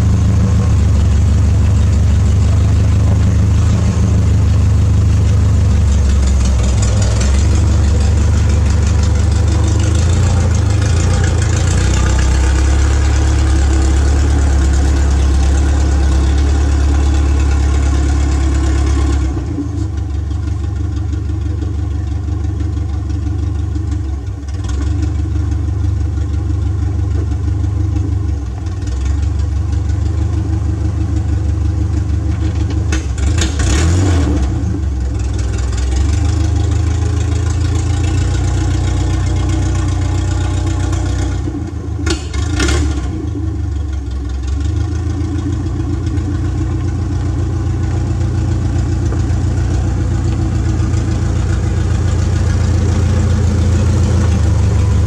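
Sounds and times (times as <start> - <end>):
petrol engine idling: 0.0 - 55.0.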